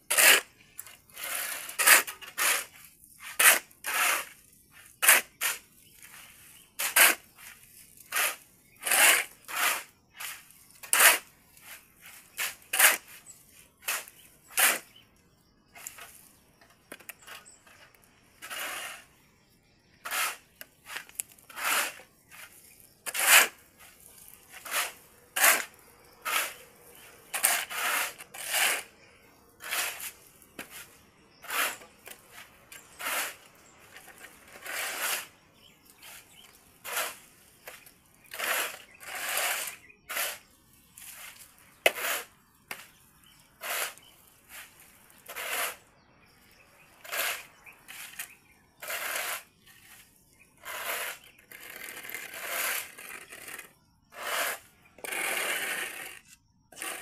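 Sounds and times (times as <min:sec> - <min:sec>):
shovel digging into gravelly mix: 0:00.1 - 0:15.0, 0:17.0 - 0:19.2, 0:20.0 - 0:45.8, 0:47.0 - 0:56.2, 0:56.8 - 0:57.0
shovel scraping concrete floor: 0:00.1 - 0:15.0, 0:15.7 - 0:19.2, 0:20.0 - 0:29.0, 0:29.6 - 0:45.8, 0:47.0 - 0:57.0.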